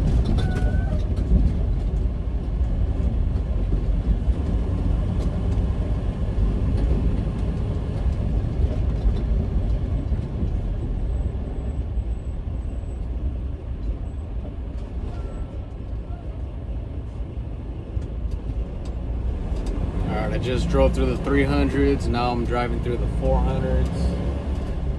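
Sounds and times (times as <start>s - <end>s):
truck engine and road rumble: 0.0s - 24.9s.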